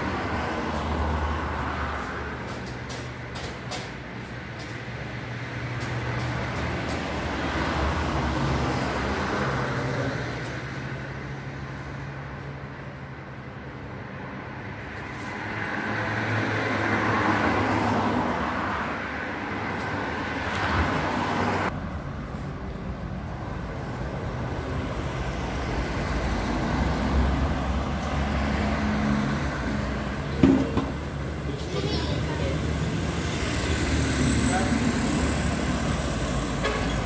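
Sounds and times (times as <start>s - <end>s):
traffic hum: 0.0s - 37.0s.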